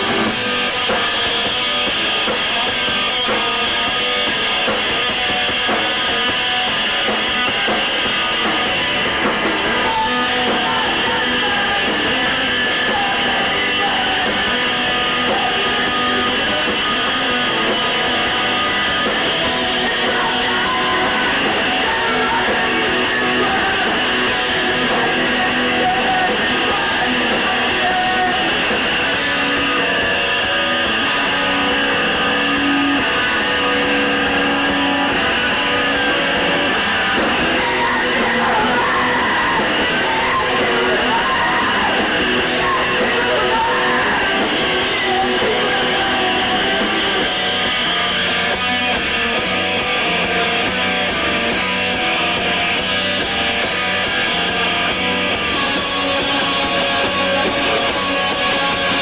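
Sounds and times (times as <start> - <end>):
live rock band playing loudly: 0.0 - 59.0.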